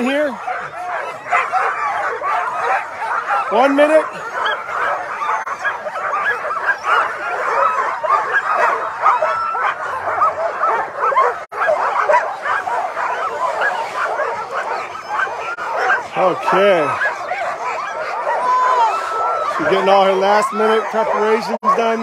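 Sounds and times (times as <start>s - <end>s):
sled dogs barking: 0.0s - 22.0s.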